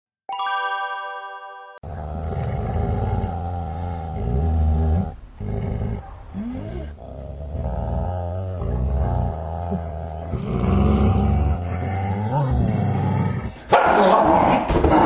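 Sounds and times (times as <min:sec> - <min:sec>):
dogs growling: 0:01.8 - 0:15.0.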